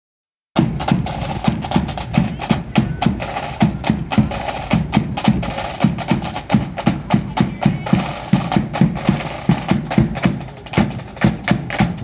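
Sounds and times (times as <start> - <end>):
snare drum strokes: 0.6 - 12.0.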